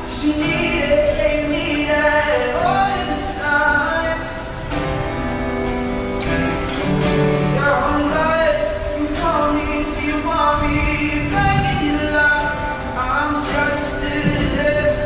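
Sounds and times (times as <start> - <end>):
man singing: 0.0 - 4.8, 6.8 - 15.0
rain hiss: 0.0 - 15.0
strummed acoustic guitar: 0.0 - 15.0.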